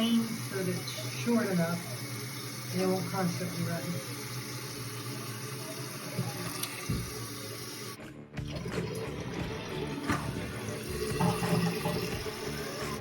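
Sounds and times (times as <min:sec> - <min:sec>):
water refilling toilet tank: 0:00.0 - 0:13.0.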